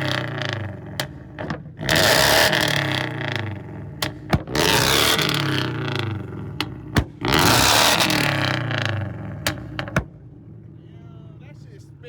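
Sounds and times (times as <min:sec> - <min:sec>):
exhaust pops and bangs: 0:00.0 - 0:10.8
car engine revving: 0:00.0 - 0:11.6.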